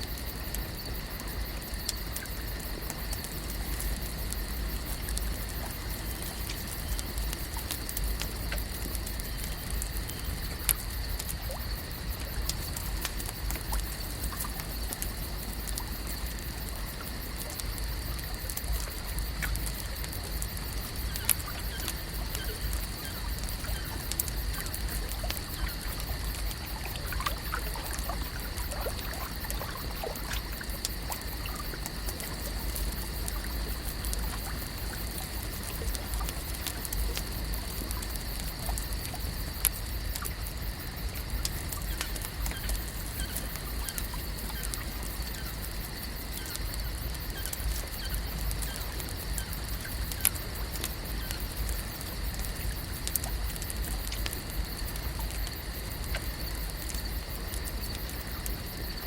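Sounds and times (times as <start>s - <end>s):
water trickling and lapping: 0.0s - 59.0s.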